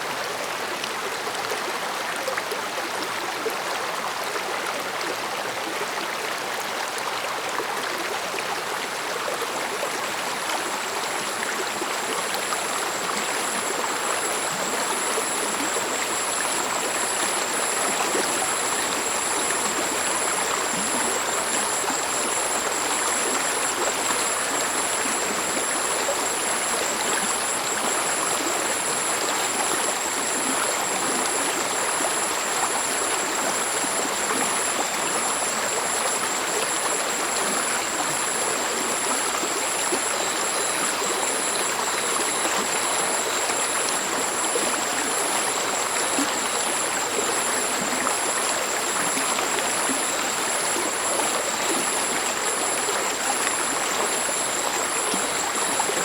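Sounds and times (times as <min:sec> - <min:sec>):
stream flowing: 0:00.1 - 0:56.0.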